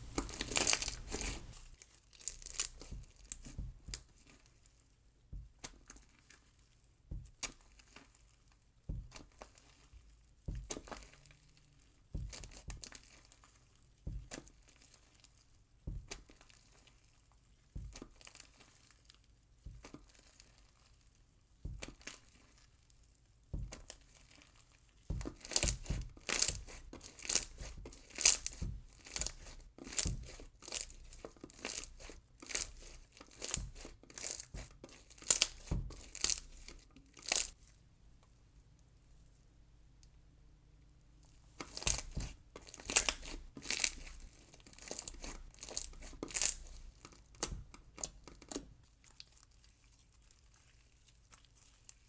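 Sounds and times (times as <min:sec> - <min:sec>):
slime squishing by hand: 0:00.0 - 0:37.8, 0:41.3 - 0:52.0.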